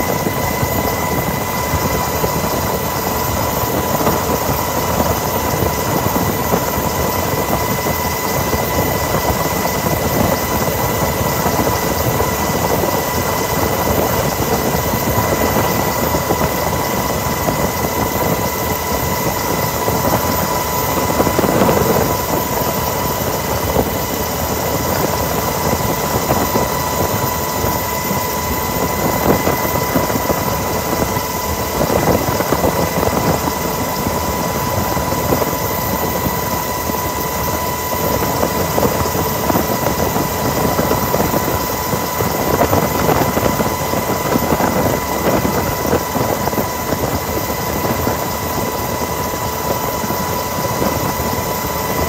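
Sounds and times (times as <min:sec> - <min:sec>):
helicopter rotor and engine noise: 0:00.0 - 0:52.0.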